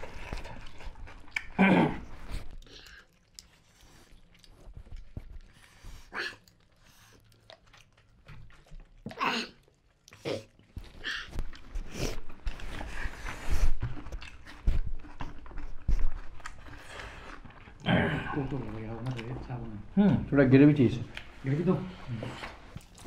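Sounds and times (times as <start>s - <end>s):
biting and chewing: 0.0s - 19.9s, 22.3s - 23.0s.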